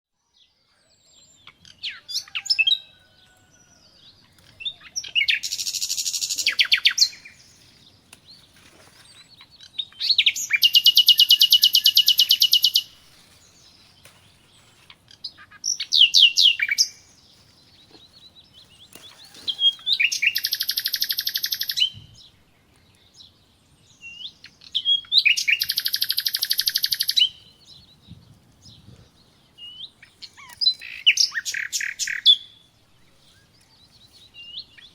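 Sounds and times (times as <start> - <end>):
songbird trilling and chirping: 0.2 - 34.9.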